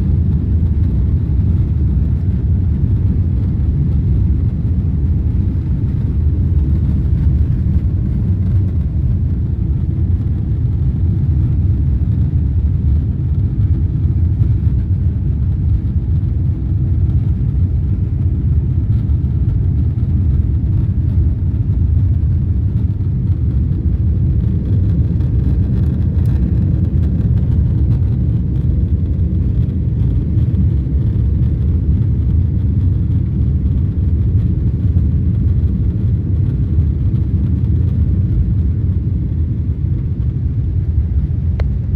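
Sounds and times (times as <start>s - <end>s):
jet engine rumble in cabin: 0.0s - 41.9s.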